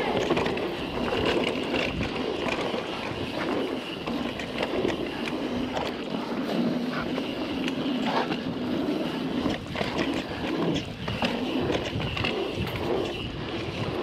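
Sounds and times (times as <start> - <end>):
bike chain clicking and rattling: 0.0 - 14.0
tyres rushing on dirt: 0.0 - 14.0
wind rushing past microphone: 0.0 - 14.0.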